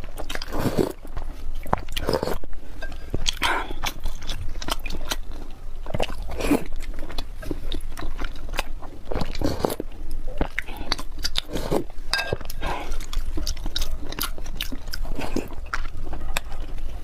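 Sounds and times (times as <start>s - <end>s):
person biting and chewing food: 0.0s - 16.8s.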